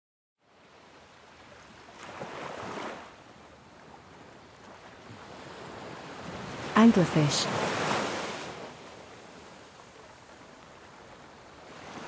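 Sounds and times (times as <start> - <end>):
ocean waves washing: 0.4 - 12.0.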